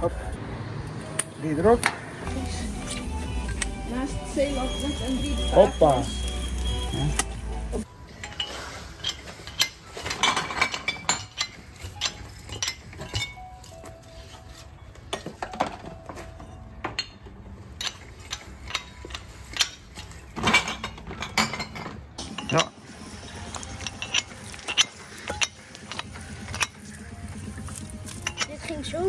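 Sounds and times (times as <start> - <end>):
glass bottles clinking: 2.8 - 13.7, 15.1 - 28.9.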